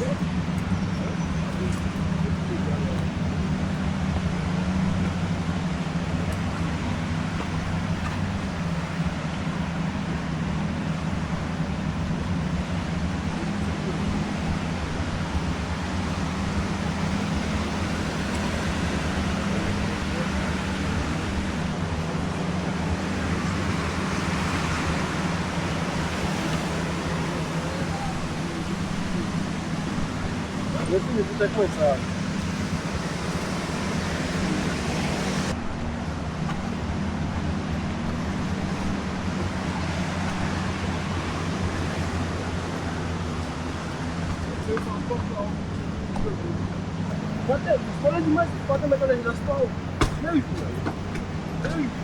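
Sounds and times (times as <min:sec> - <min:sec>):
constant noise: 0:00.0 - 0:52.0
engine drone: 0:00.0 - 0:52.0.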